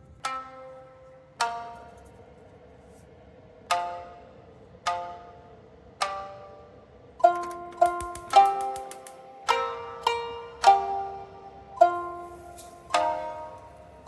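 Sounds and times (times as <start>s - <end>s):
plucked string notes: 0.0s - 2.1s, 3.7s - 14.0s.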